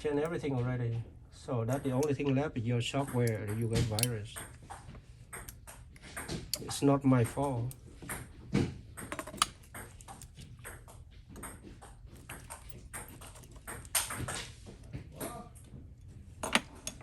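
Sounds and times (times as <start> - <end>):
hand tools clicking and tapping: 0.0 - 1.0, 1.7 - 17.0.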